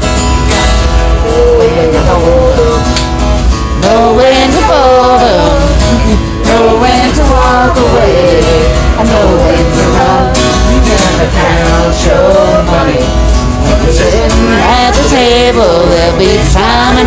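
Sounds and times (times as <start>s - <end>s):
acoustic guitar strumming: 0.0s - 17.0s
man singing country song: 0.9s - 3.0s, 3.8s - 17.0s.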